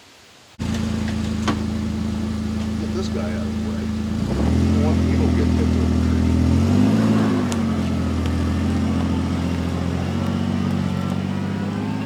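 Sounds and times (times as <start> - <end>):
small engine running: 0.6 - 12.0.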